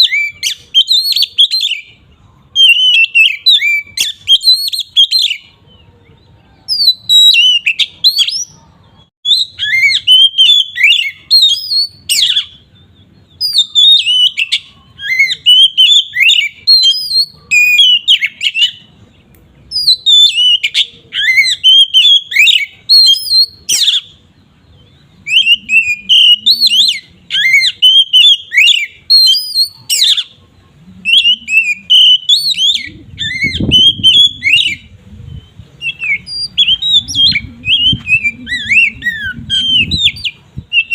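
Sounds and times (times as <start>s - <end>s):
bird singing whistled phrases: 0.0s - 5.6s, 6.6s - 19.0s, 19.7s - 30.4s, 31.0s - 40.9s.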